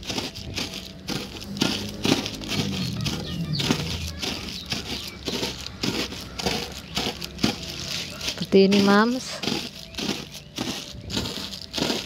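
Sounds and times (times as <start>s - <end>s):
biscuit pieces crunching: 0.0s - 12.0s
plastic bag crinkling: 0.0s - 12.0s.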